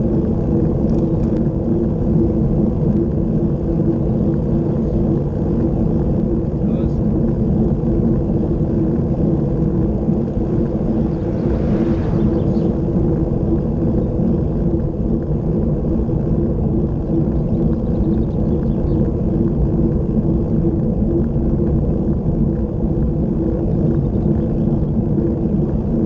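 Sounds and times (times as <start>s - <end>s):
bicycle tyre noise on asphalt: 0.0s - 26.0s
wind buffeting microphone: 0.0s - 26.0s.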